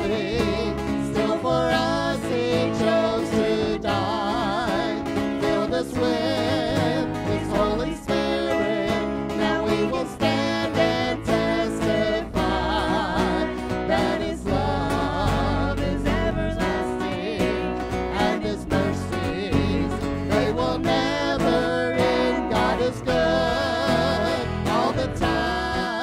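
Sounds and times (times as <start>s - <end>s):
guitars playing: 0.0s - 26.0s
people singing: 0.0s - 26.0s.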